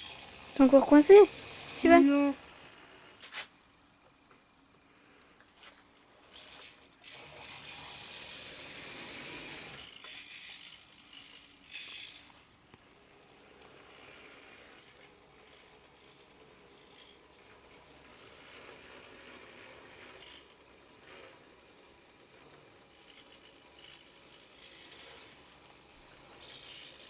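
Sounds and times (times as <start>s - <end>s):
small electric motors whirring: 0.0s - 3.5s, 5.8s - 27.0s.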